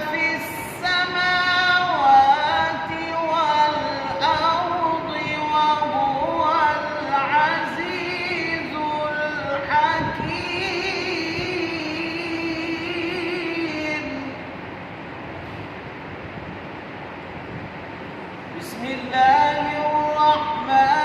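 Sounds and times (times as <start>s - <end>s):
man reciting melodically: 0.0s - 14.5s, 18.5s - 21.0s.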